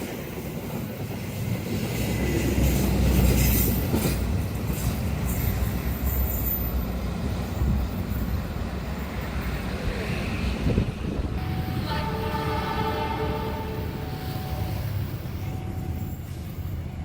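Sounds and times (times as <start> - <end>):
train rumbling past: 0.0 - 17.0
train wheel noise: 0.0 - 17.0.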